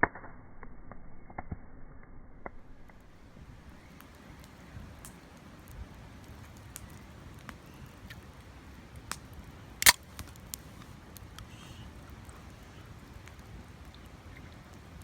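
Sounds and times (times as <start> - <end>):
wood fire crackling: 2.7 - 15.0.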